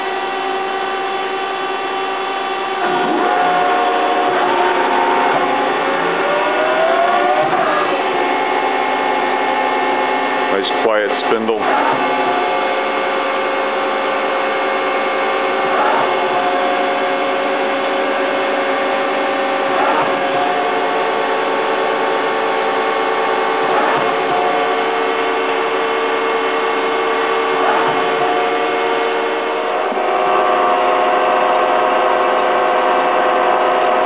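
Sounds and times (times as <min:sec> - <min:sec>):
lathe spindle whine: 0:00.0 - 0:34.0.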